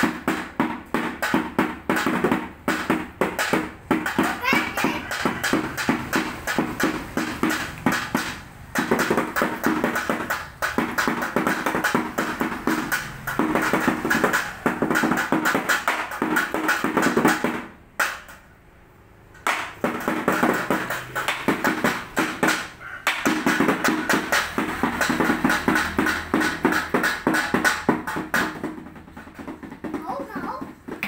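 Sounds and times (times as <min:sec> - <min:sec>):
fast drum and cymbal beats: 0:00.0 - 0:18.4, 0:19.2 - 0:31.0.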